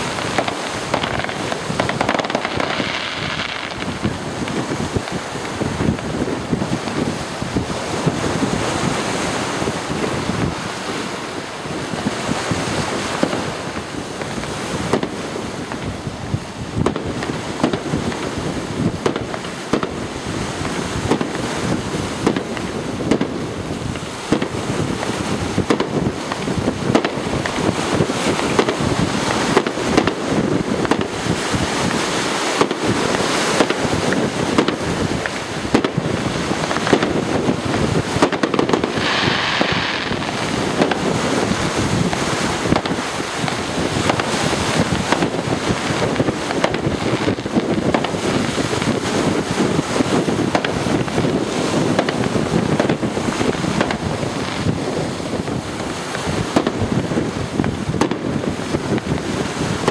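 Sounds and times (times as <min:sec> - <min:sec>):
fireworks bangs and crackles: 0:00.0 - 0:59.9
fireworks hiss: 0:00.0 - 0:59.9.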